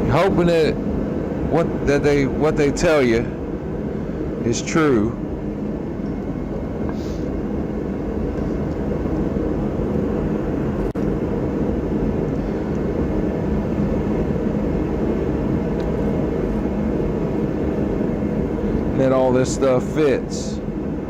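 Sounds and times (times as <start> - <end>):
steady rushing drone: 0.0 - 21.0.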